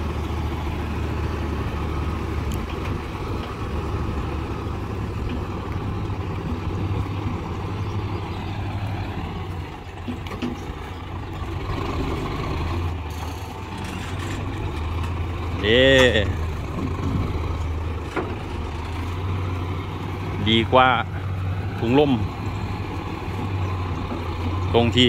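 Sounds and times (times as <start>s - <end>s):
truck diesel engine droning: 0.0s - 25.0s.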